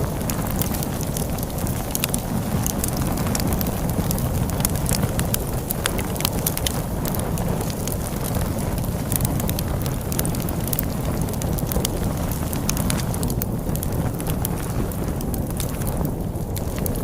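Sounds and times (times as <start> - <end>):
log fire crackling and popping: 0.0 - 17.0
storm wind rushing: 0.0 - 17.0.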